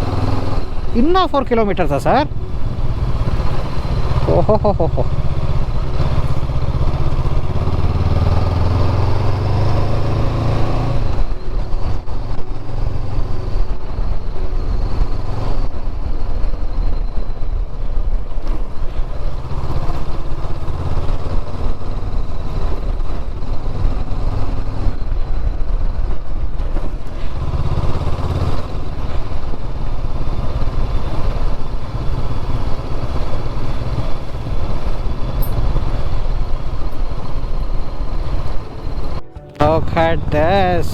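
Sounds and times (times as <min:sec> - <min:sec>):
road and wind noise: 0:00.0 - 0:40.9
motorcycle engine running: 0:02.0 - 0:40.9.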